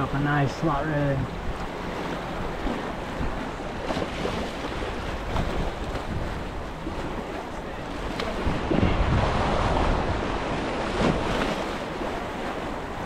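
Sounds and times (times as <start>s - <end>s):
waves splashing over rocks: 0.0s - 13.0s
wind buffeting microphone: 1.0s - 13.0s.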